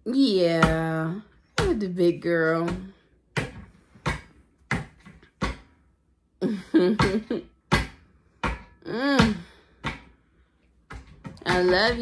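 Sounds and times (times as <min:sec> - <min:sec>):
sharp taps or thumps: 0:00.5 - 0:05.8, 0:07.0 - 0:10.2, 0:10.9 - 0:12.0.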